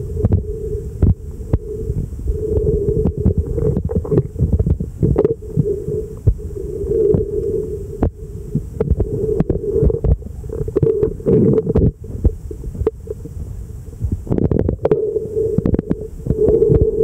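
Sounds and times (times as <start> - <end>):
muffled underwater rumble: 0.0 - 17.0
steady hum: 0.0 - 17.0.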